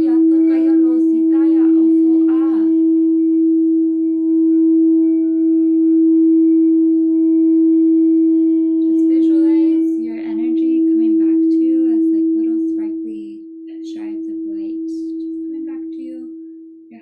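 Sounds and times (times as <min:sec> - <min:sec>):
singing bowl sustained tone: 0:00.0 - 0:17.0.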